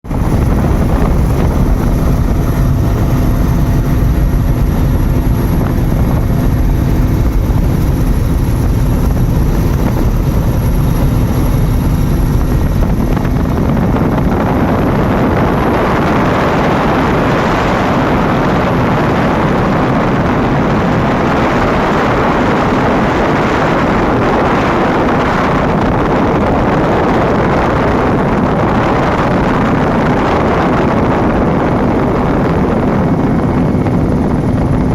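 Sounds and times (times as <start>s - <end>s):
aircraft engine drone: 0.1s - 34.9s.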